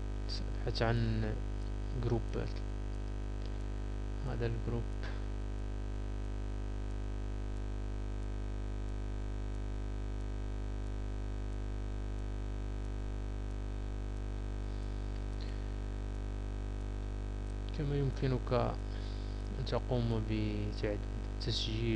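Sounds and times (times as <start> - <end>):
electrical mains hum: 0.0 - 21.9.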